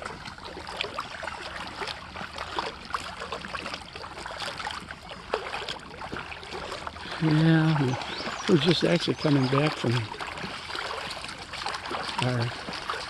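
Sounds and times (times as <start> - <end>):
shallow water trickling and splashing: 0.0 - 13.0.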